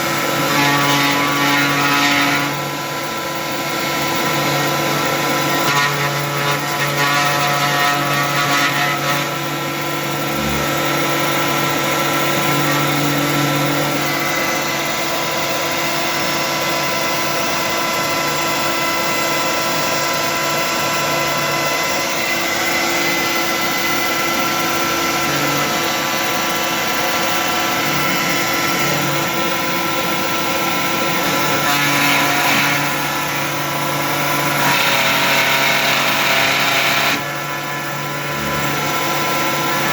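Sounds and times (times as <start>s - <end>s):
dust vacuum running: 0.0s - 39.9s
milling machine motors whining: 0.0s - 39.9s.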